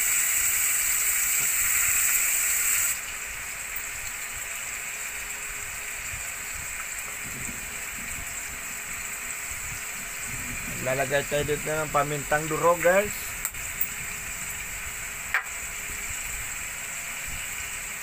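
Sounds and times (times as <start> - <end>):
chicken sizzling in a wok: 0.0 - 18.0.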